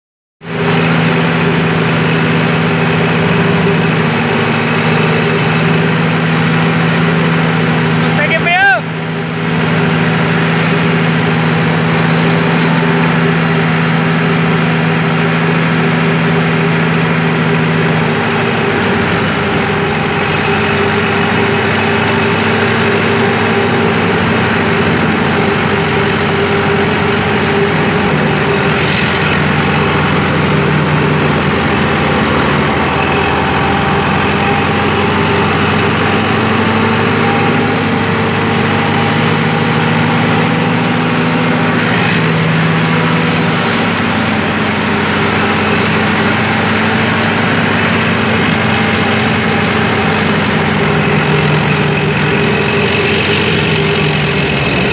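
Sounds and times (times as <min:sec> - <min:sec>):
thresher machine droning: 0:00.4 - 0:54.9.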